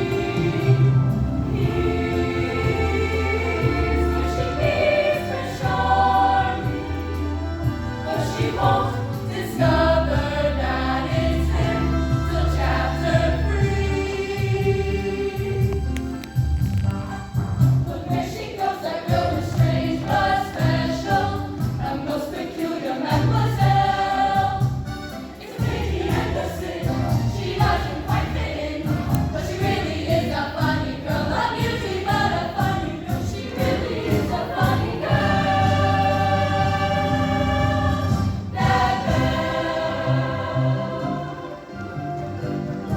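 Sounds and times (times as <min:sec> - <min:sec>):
choir singing with accompaniment: 0:00.0 - 0:16.3, 0:17.3 - 0:42.9.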